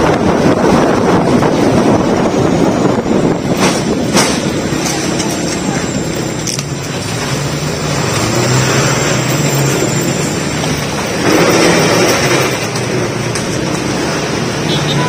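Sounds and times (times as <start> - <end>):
car engine accelerating: 0.0 - 14.7.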